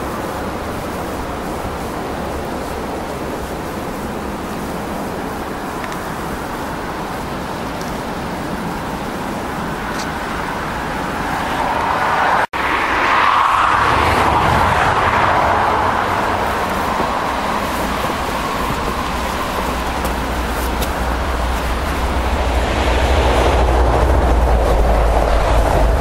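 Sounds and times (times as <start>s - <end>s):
roadside noise rushing: 0.0s - 26.0s
vehicle tyres passing: 0.0s - 26.0s.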